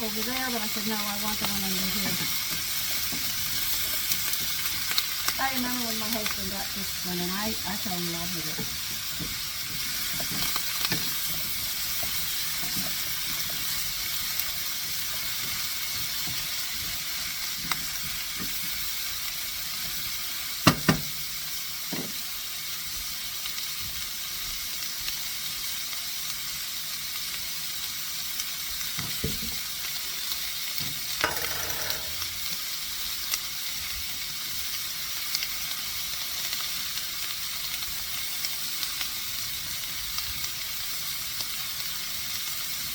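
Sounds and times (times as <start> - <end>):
chicken sizzling in frying pan: 0.0 - 42.9.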